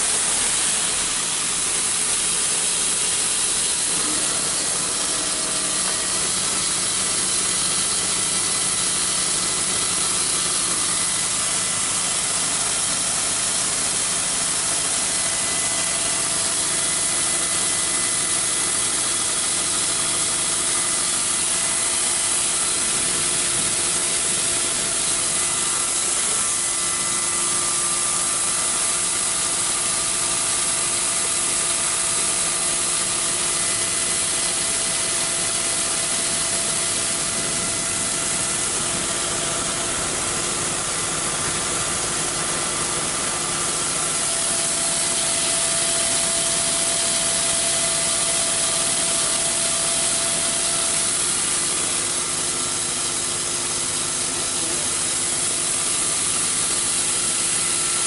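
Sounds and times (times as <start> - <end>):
auger machinery running: 0.0 - 58.0
corn pouring into hopper: 0.0 - 58.0.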